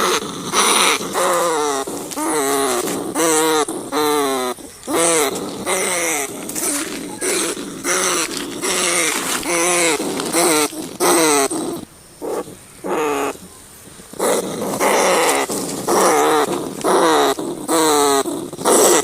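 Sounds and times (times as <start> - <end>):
rats squealing: 0.0 - 13.5, 14.1 - 19.0.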